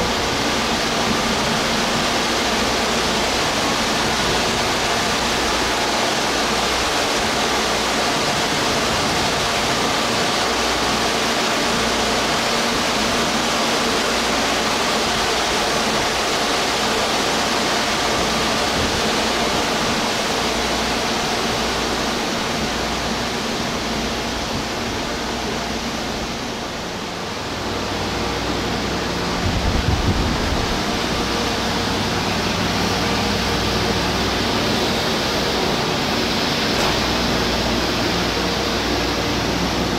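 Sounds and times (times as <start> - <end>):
train air conditioning whirring hiss: 0.0 - 39.9.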